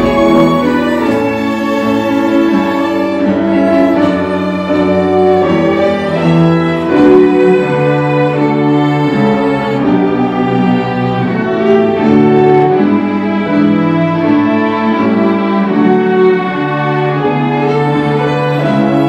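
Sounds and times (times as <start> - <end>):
string ensemble playing: 0.0 - 19.0.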